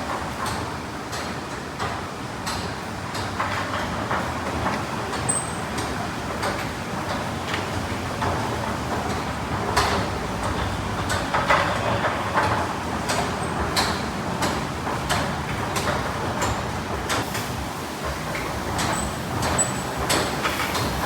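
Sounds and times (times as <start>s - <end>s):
spraying water and machinery: 0.0s - 21.0s
machinery clanks: 0.4s - 21.0s.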